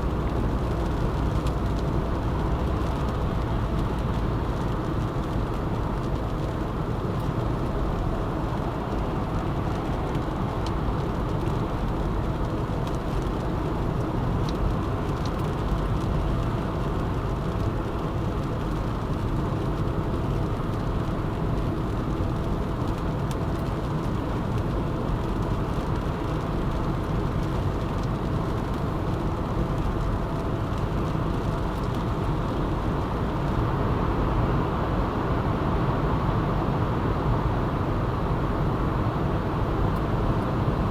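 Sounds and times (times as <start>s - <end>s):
car road and engine noise: 0.0s - 40.9s.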